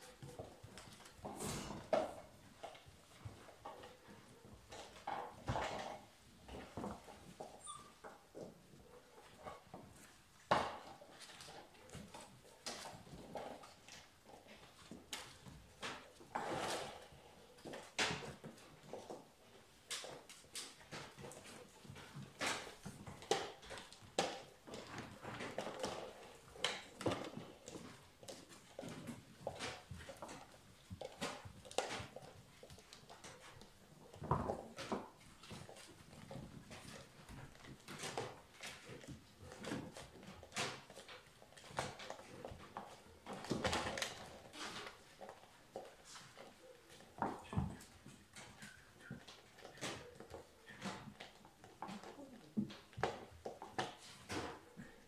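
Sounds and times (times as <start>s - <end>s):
puppies scuffling: 0.0s - 55.0s.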